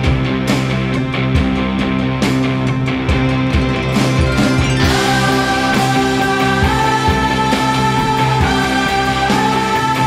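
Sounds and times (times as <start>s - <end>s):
music with steady beat and chords: 0.0s - 10.0s.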